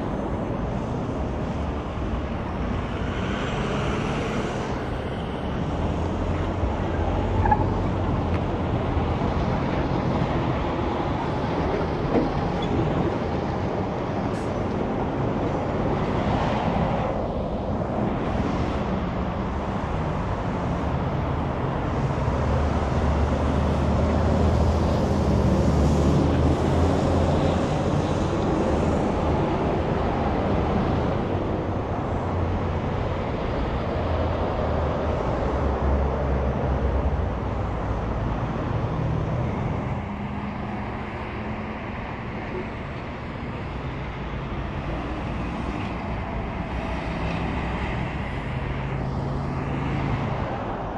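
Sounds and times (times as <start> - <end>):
heavy vehicles rumbling by: 0.0 - 50.9.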